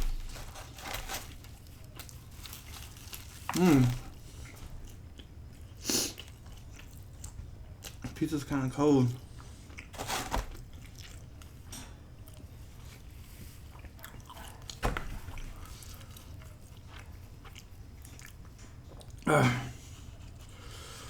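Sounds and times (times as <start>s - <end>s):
person chewing pizza: 0.0s - 8.3s, 9.0s - 21.0s.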